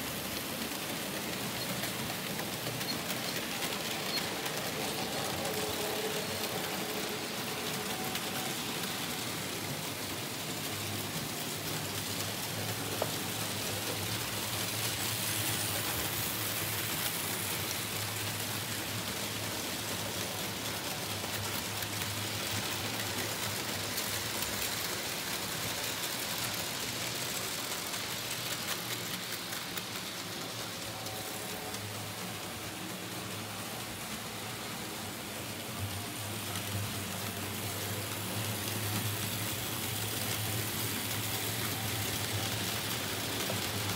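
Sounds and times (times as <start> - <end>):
model train wheels rattling on rails: 0.0 - 43.9.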